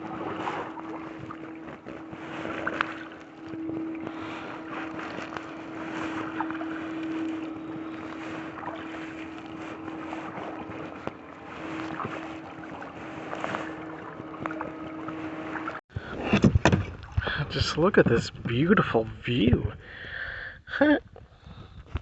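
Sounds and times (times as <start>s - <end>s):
paddle splashing in water: 0.0s - 19.0s
wind buffeting microphone: 0.0s - 20.2s, 21.0s - 22.0s
steady low hum: 0.0s - 20.3s.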